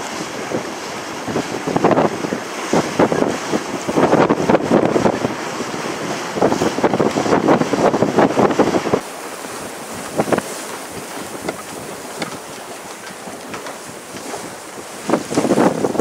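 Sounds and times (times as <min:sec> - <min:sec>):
water splashes: 0:00.0 - 0:16.0
wind and water hiss: 0:00.0 - 0:16.0
wind buffeting microphone: 0:00.0 - 0:16.0.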